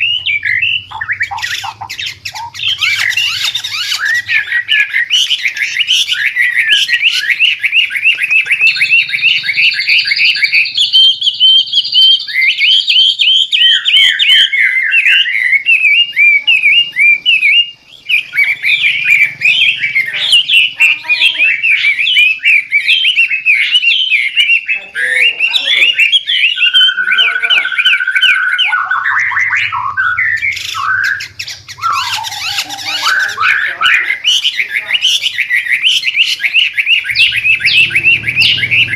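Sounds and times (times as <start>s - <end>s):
bird singing whistled trills: 0.0s - 38.9s.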